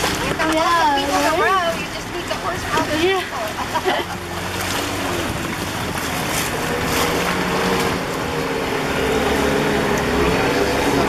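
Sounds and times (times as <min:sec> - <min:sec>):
outboard motor running: 0:00.0 - 0:11.0
water and air rushing: 0:00.0 - 0:11.0.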